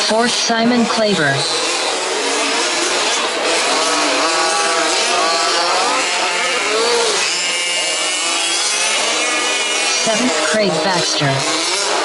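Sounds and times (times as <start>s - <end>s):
small two-stroke engines revving: 0.0s - 12.0s.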